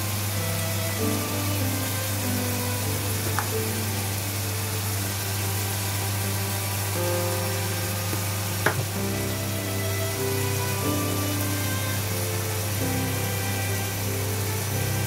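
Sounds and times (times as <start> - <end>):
background music: 0.0 - 15.0
beef sizzling in a saucepan: 0.2 - 15.0.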